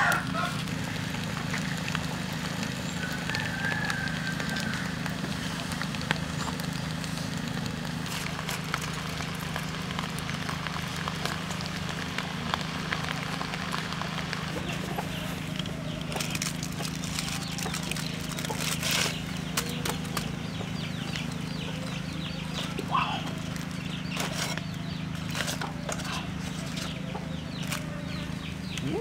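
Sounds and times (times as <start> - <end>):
fire crackling: 0.0 - 29.0.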